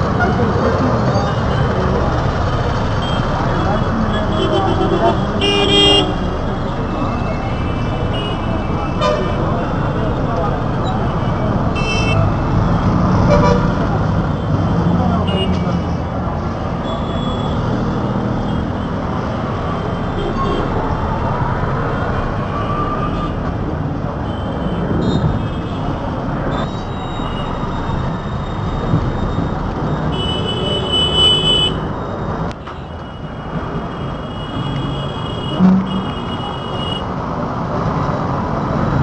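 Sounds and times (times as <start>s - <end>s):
road and tyre noise: 0.0s - 39.0s.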